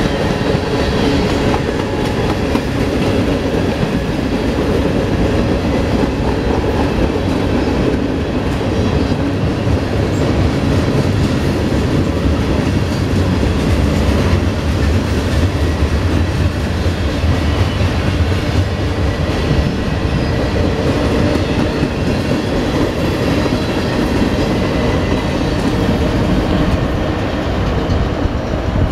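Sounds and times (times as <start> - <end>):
steel wheels rumbling on rails: 0.0 - 28.9.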